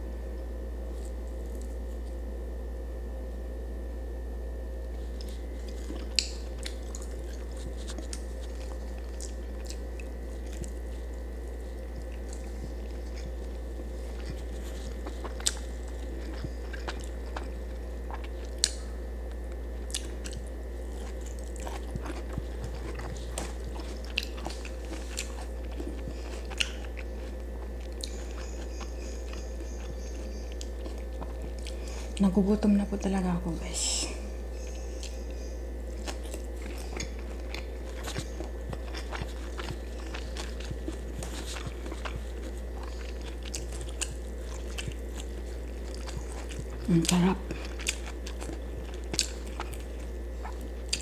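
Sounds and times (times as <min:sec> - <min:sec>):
steady low hum: 0:00.0 - 0:51.0
person chewing food: 0:00.8 - 0:02.2, 0:04.8 - 0:32.3, 0:34.2 - 0:51.0
mouth clicks and crunches: 0:05.0 - 0:32.2, 0:34.6 - 0:51.0.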